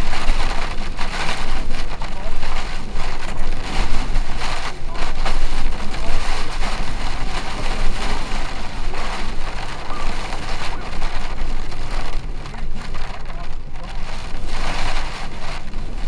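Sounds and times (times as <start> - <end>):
heavy rain on a vehicle: 0.0 - 16.0
low road rumble: 0.0 - 16.0.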